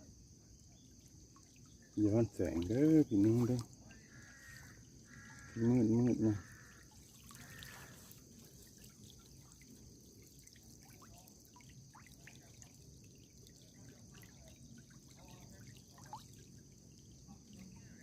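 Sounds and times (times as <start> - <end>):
water dripping and trickling: 0.4 - 18.0.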